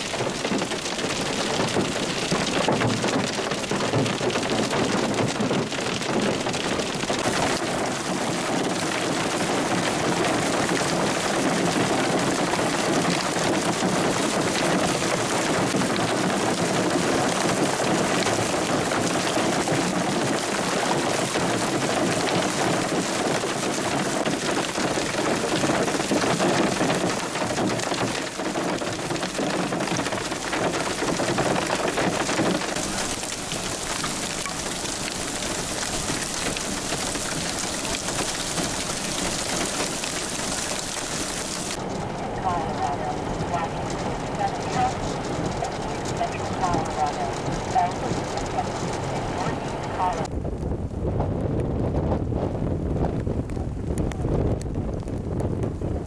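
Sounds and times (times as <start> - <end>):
hail and heavy rain pelting: 0.0 - 56.0.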